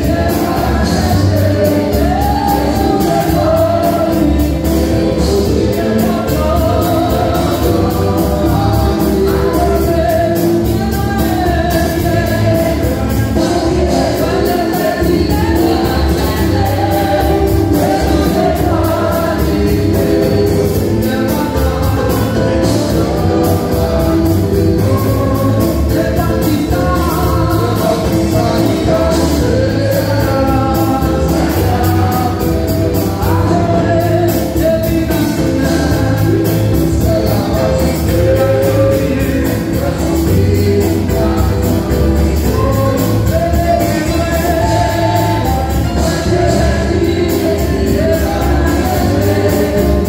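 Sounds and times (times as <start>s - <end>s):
amplified accompaniment with bass: 0.0s - 50.0s
choir singing gospel: 0.0s - 50.0s.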